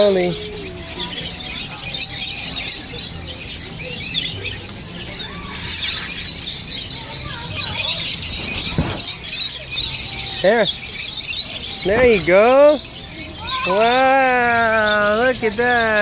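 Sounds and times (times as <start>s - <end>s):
flock of birds chattering: 0.0s - 16.0s.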